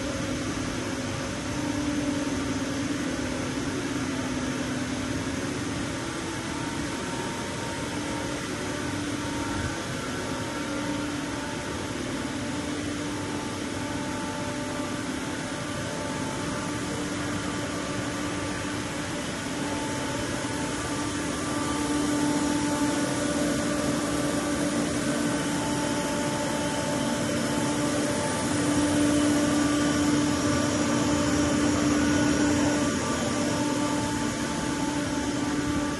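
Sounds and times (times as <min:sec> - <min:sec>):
milling machine humming: 0:00.0 - 0:35.9
wavering whine: 0:00.0 - 0:35.9.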